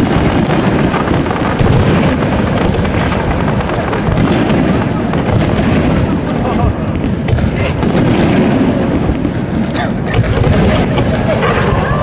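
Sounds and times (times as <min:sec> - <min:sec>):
fireworks bangs and booms: 0:00.0 - 0:12.0.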